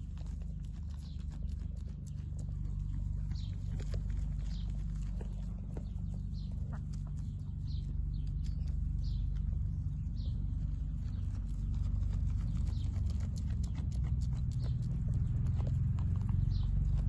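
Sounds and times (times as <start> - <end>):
goat chewing grass: 0.0 - 17.0
low rumble: 0.0 - 17.0.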